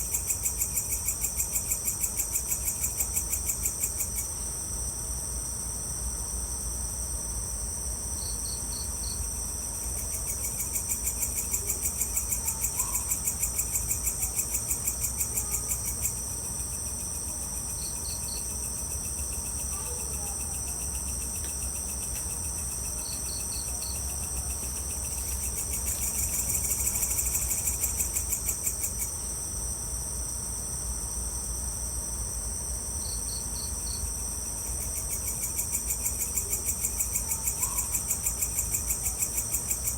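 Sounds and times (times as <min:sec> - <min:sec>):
pulsing insect trill: 0:00.0 - 0:05.7, 0:08.0 - 0:39.9.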